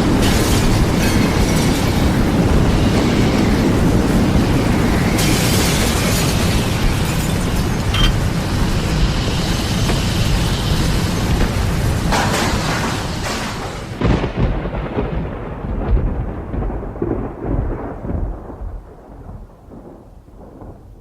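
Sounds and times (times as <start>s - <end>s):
deep thunder rumbling: 0.0s - 21.0s
sharp thunder cracks: 0.0s - 21.0s.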